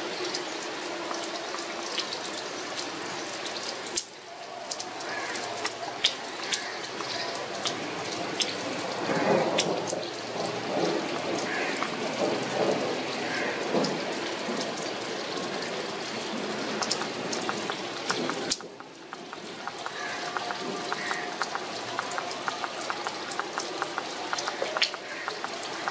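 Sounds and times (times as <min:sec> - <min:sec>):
rain falling: 0:00.0 - 0:25.9
raindrops tapping close: 0:00.0 - 0:25.9.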